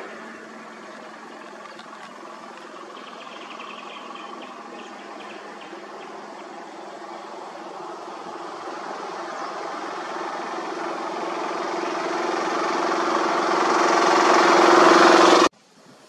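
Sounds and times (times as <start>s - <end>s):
vehicle engine running: 0.0s - 15.5s.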